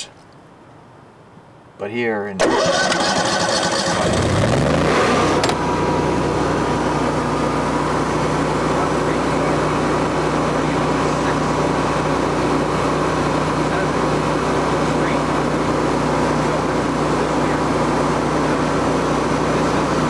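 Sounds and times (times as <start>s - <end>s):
generator engine running: 2.4s - 20.0s.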